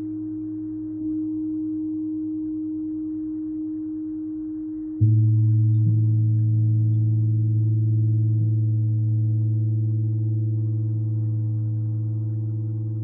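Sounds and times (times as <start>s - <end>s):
ambient electronic drone music: 0.0s - 13.0s.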